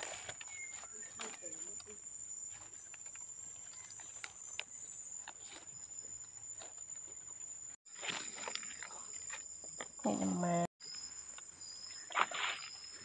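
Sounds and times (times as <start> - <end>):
high-pitched insect trill: 0.2 - 13.0.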